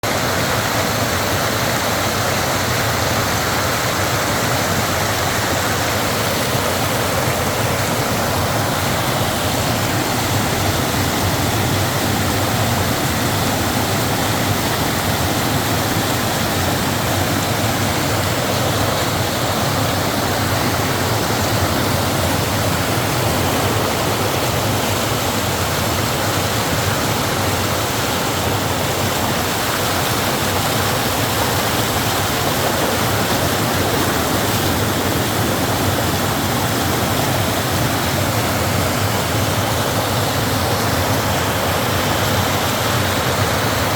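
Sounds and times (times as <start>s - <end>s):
stream water flowing: 0.0s - 43.9s.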